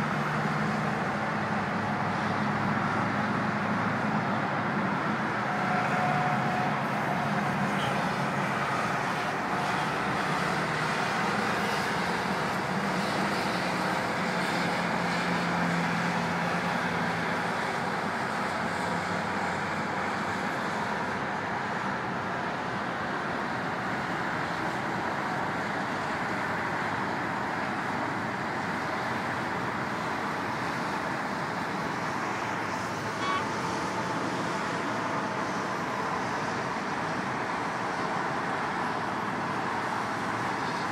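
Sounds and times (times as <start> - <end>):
dense highway traffic: 0.0 - 40.9.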